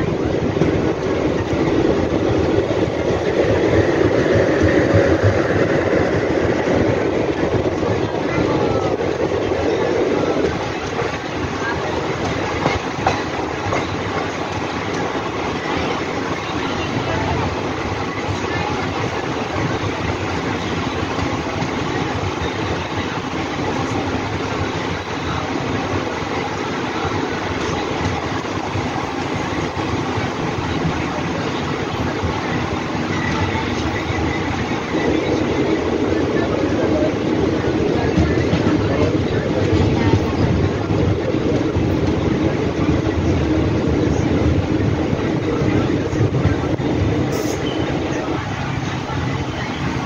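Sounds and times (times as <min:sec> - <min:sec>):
trains rushing and rumbling: 0:00.0 - 0:50.0.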